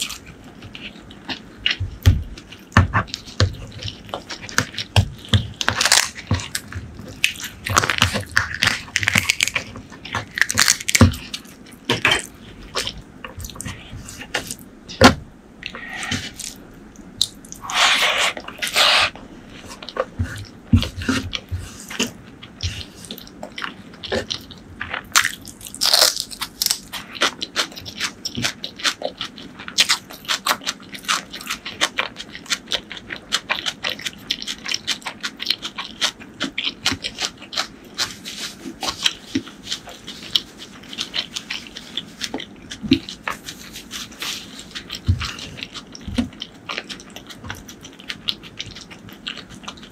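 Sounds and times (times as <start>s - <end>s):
moist chewing clicks and crunches: 0.0s - 15.0s, 19.5s - 49.9s.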